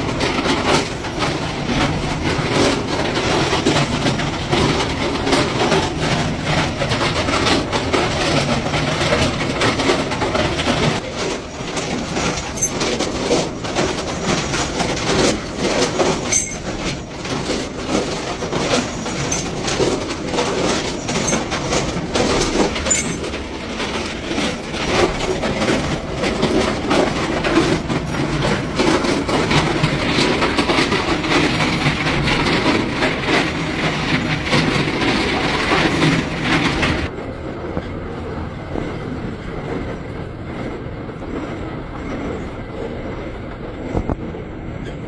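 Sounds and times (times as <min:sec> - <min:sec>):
machine clatter with crackling: 0:00.0 - 0:45.0.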